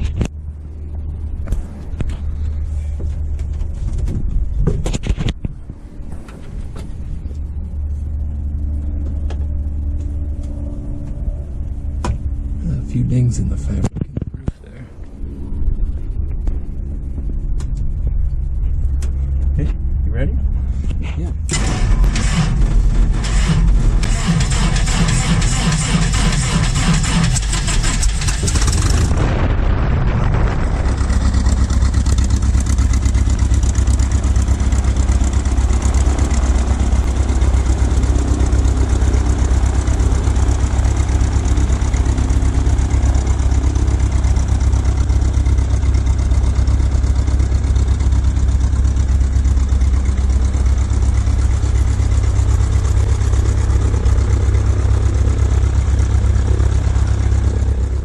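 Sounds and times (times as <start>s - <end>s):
aircraft piston engine drone: 0.0s - 58.0s.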